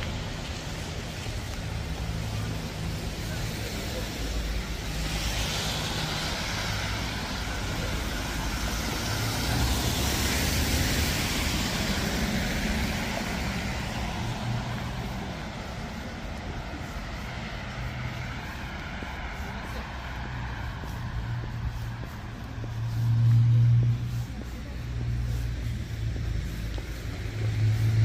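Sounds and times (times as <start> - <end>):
car passing on wet street: 0.0 - 28.0.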